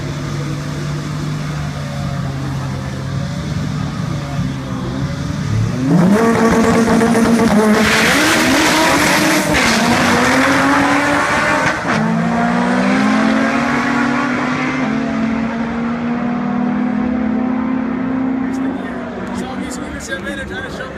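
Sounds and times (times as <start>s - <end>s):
drag car engines at full throttle: 0.0s - 20.9s.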